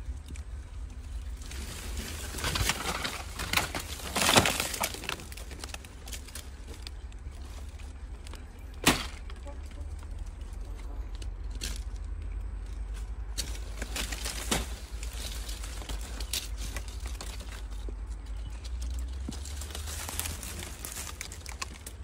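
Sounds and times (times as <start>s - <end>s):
low steady rumble: 0.0s - 22.0s
twigs and leaves snapping: 0.0s - 22.0s.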